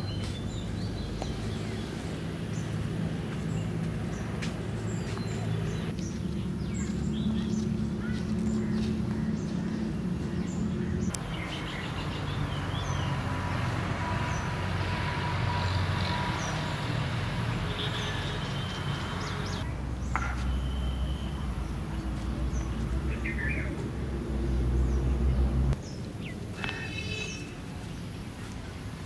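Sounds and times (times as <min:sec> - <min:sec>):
small birds chirping: 0:00.0 - 0:14.6, 0:15.5 - 0:29.0.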